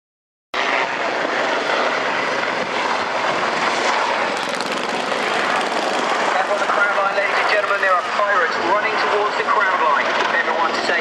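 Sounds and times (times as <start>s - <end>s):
helicopter engines and rotors: 0.6s - 11.0s.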